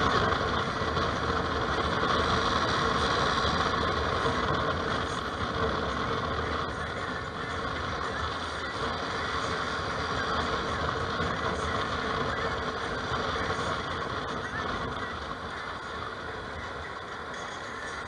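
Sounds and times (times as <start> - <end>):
rush of air and road noise: 0.0 - 18.0.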